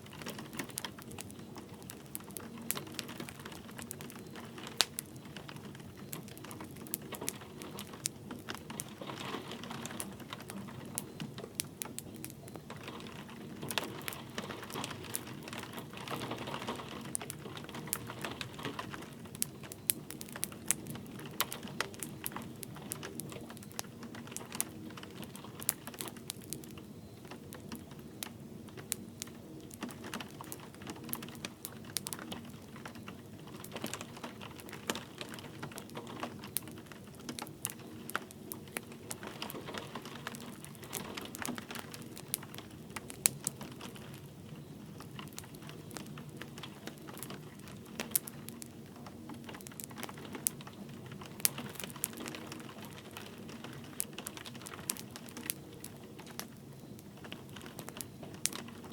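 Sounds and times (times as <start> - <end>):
light rain pattering: 0.0 - 58.9
wood fire crackling and popping: 0.0 - 58.9.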